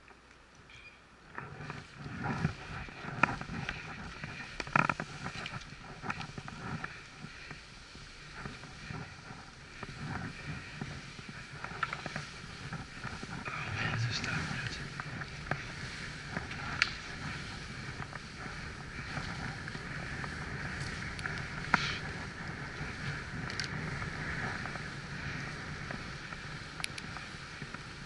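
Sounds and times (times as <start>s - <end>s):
skis swishing through snow: 1.2s - 28.0s.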